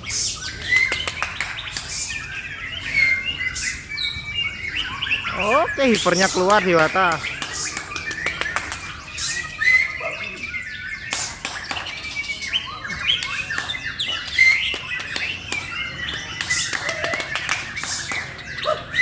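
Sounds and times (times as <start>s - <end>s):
bird singing whistled song: 0.0s - 19.0s.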